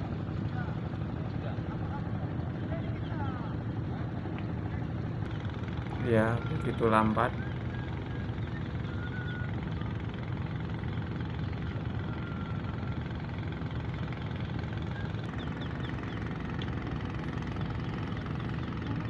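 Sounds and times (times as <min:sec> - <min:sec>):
ship diesel engines rumbling: 0:00.0 - 0:19.0.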